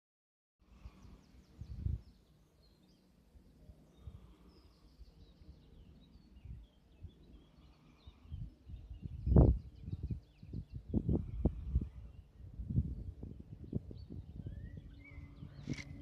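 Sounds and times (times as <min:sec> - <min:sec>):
small birds chirping: 0:00.6 - 0:16.0.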